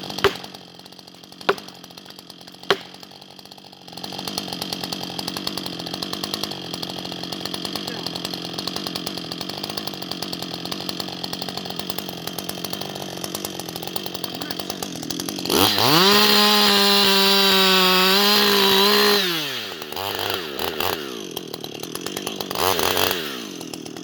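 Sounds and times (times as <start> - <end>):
chainsaw running: 0.0 - 24.0.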